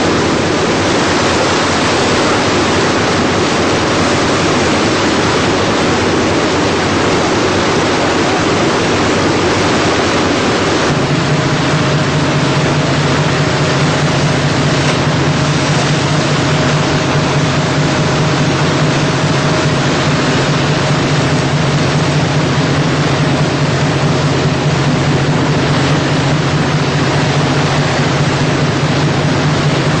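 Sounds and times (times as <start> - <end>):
ship engine hum: 0.0 - 30.0
water rushing along ship hull: 0.0 - 30.0.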